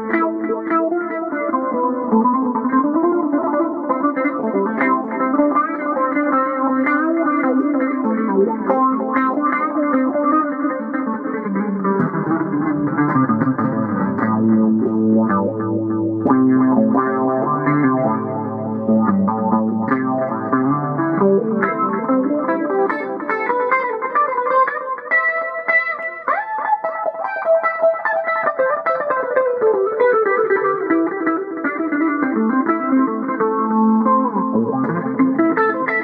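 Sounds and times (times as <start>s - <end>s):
clean electric guitar: 0.0s - 36.0s.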